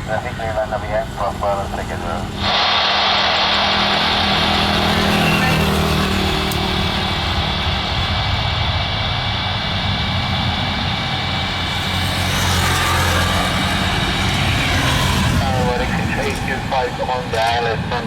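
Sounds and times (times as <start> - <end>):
jet engines rumbling and hissing: 0.0 - 18.0.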